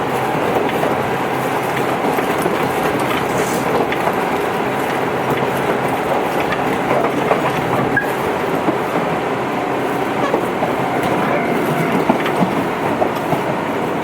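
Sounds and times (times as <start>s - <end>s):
train ride rumble: 0.0s - 14.0s
wheels clicking on track: 0.0s - 14.0s.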